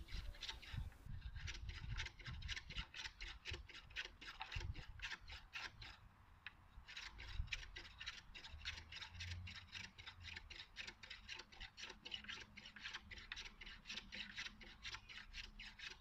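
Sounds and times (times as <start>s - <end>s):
hand plane scraping wood: 0.0s - 6.0s, 6.9s - 16.0s.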